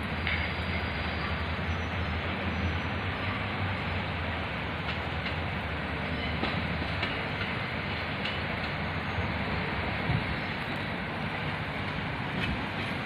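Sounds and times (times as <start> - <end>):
subway train rumbling on track: 0.0 - 13.0.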